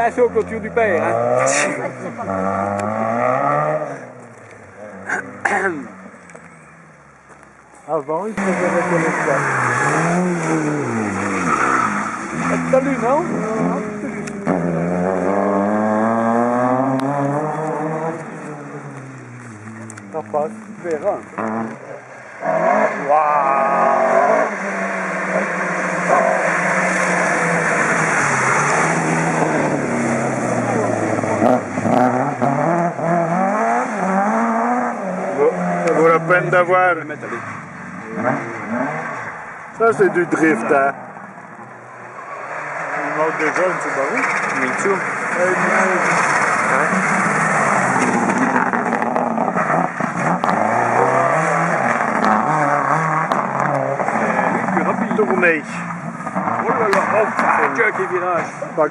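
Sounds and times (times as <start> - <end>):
rally car engine revving: 0.0 - 6.6, 8.3 - 58.9.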